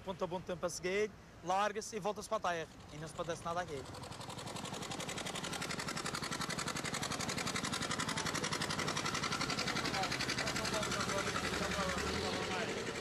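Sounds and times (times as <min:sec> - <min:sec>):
boat machinery pulsing: 0:02.4 - 0:13.0.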